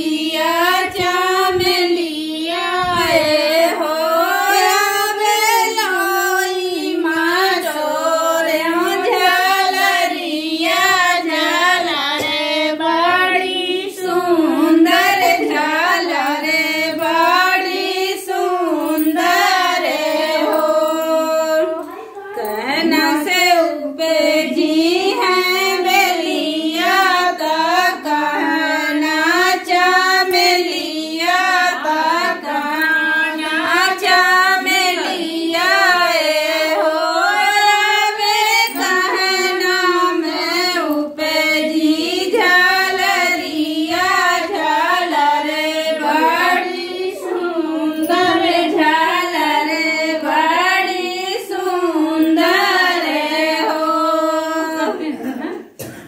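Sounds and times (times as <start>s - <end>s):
women singing: 0.0s - 56.0s.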